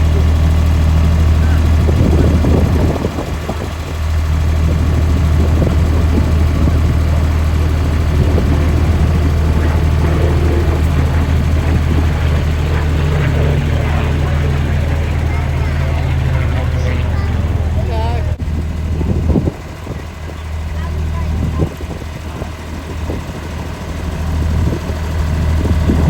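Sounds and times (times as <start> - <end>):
aircraft engine droning: 0.0 - 26.0.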